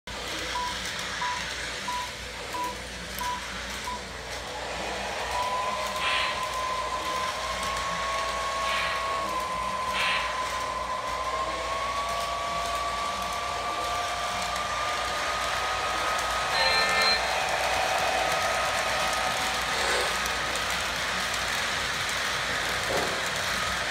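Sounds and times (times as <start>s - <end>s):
lower motor whine: 0.1s - 23.9s
model train rolling rumble: 0.1s - 23.9s
motor whine rising in pitch: 0.5s - 23.9s.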